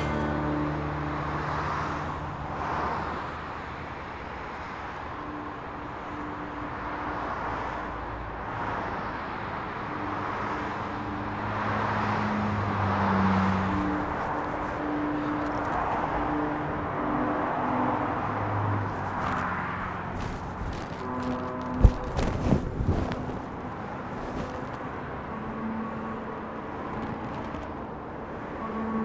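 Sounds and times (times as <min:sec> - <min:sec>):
distant city traffic: 0:00.0 - 0:29.0.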